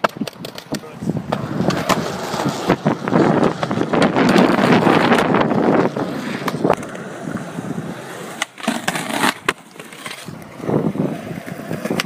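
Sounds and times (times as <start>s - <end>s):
skateboard clacks: 0.0s - 12.0s
skateboard trucks grinding: 0.0s - 12.0s
skateboard wheels rolling on concrete: 0.0s - 12.0s.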